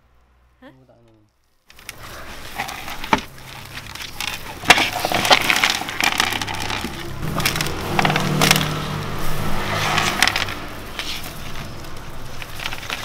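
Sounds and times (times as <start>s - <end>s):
potting mix rustling: 1.0s - 13.0s
sharp crackling clicks: 1.1s - 9.1s, 9.9s - 13.0s.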